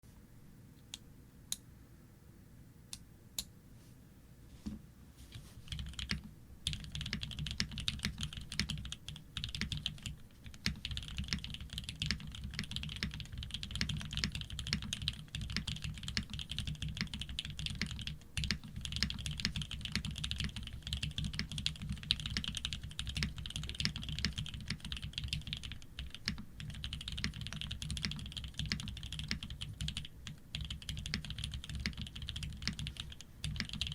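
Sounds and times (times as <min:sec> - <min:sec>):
typing on mechanical keyboard: 0:05.7 - 0:33.9.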